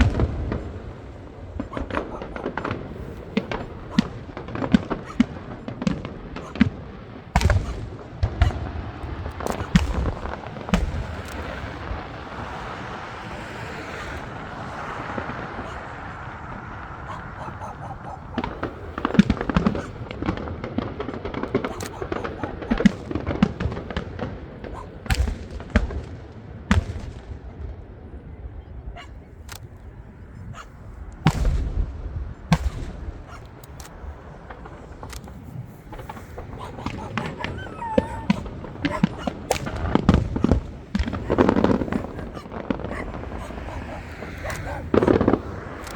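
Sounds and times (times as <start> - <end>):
firework bangs: 0.0 - 45.9.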